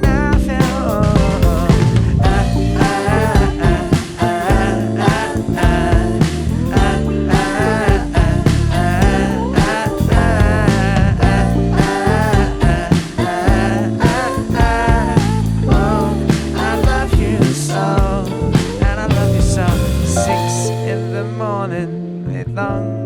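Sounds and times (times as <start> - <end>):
live band playing pop song: 0.0 - 21.8
wavering melodic lead line: 0.0 - 23.0.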